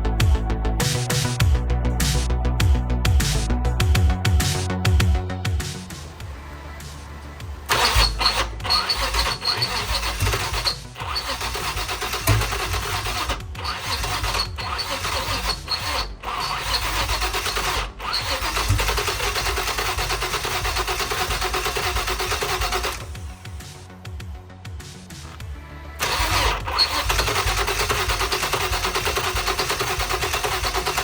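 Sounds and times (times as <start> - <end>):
car engine running: 0.0 - 24.2, 24.9 - 31.0
background music: 0.0 - 31.0.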